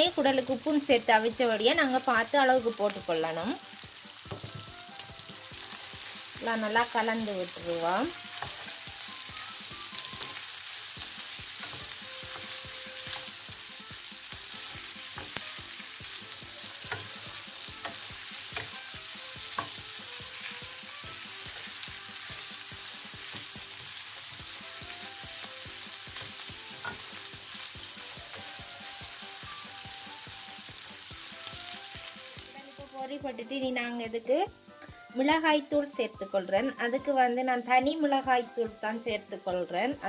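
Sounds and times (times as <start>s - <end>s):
food sizzling in hot oil: 0.0s - 40.0s.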